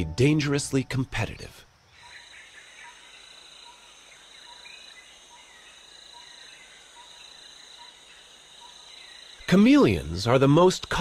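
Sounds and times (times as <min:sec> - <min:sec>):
insects trilling: 0:00.1 - 0:11.0.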